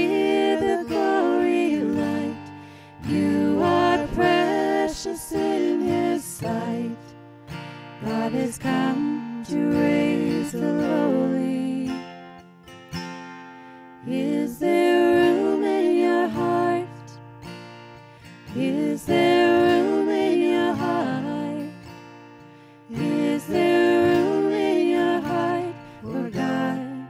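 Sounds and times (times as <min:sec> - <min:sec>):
vocal trio singing christmas song: 0:00.0 - 0:12.5, 0:13.6 - 0:27.0
acoustic guitar: 0:00.0 - 0:27.0.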